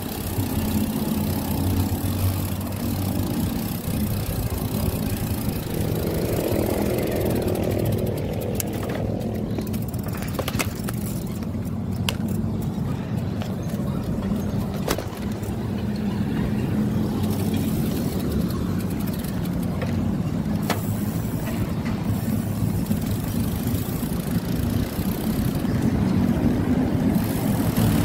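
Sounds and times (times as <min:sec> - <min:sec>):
bicycle rolling over grooved concrete: 0:00.0 - 0:28.0.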